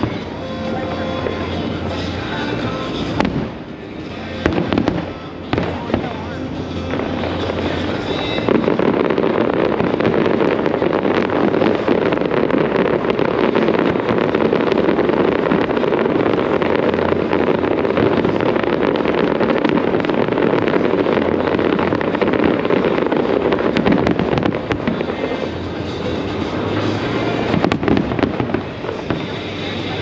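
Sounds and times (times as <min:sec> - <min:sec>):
fireworks bursts rumbling: 0:00.0 - 0:30.0
fireworks cracks and crackles: 0:00.0 - 0:30.0.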